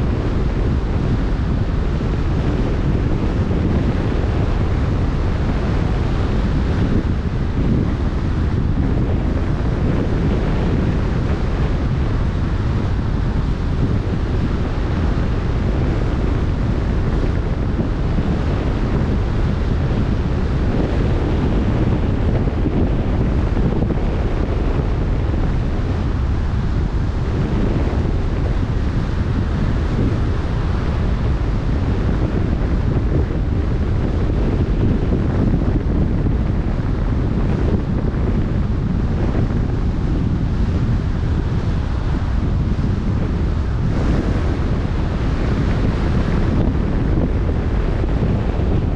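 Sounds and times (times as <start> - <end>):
choppy sea waves: 0.0 - 48.9
wind buffeting microphone: 0.0 - 48.9.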